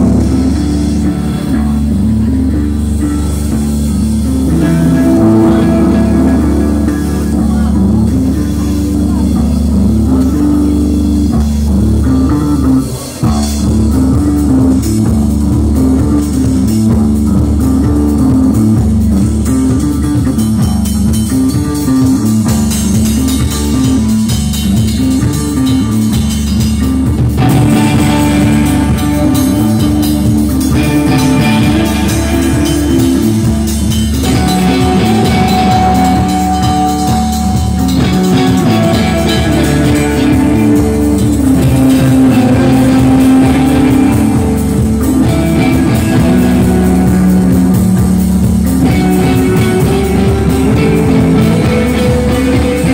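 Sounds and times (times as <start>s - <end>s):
bass guitar: 0.0s - 52.9s
drum kit: 0.0s - 52.9s
electric guitar: 0.0s - 52.9s.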